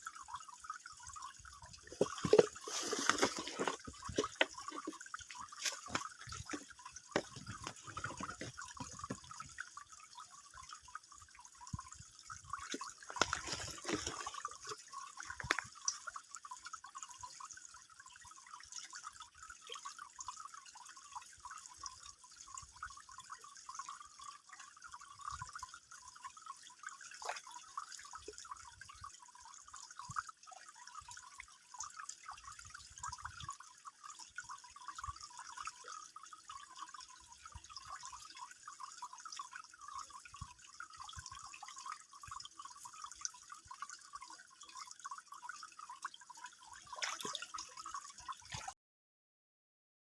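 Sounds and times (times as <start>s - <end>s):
water trickling and dripping: 0.0s - 48.8s.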